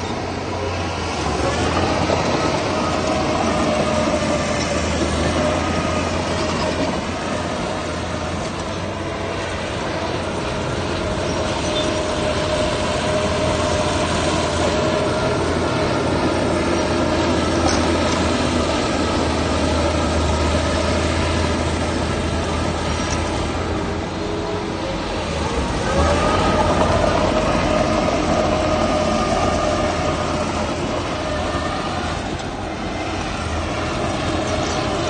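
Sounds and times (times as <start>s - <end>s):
heavy machinery engine drone: 0.0s - 35.0s.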